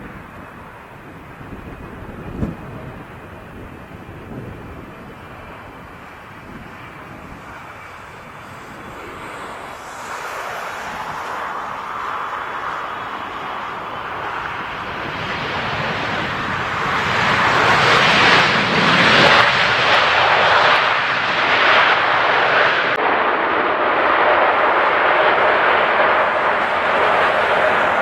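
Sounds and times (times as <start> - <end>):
jet airliner passing: 0.0 - 28.0.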